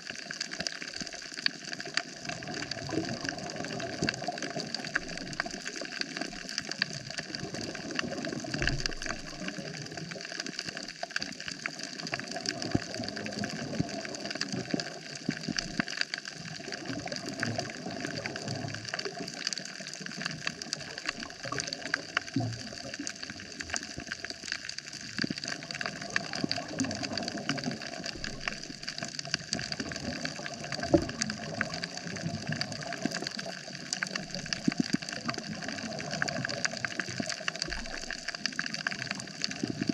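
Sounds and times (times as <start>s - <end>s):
crackle of small clicks: 0.0s - 39.9s.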